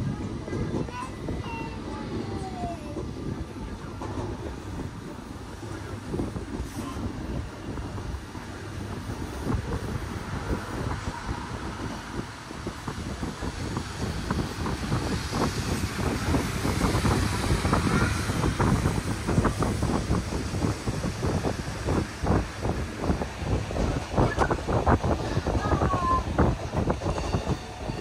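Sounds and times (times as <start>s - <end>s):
train rumbling on rails: 0.0s - 28.0s
wheels and cars clicking and rattling: 0.0s - 28.0s.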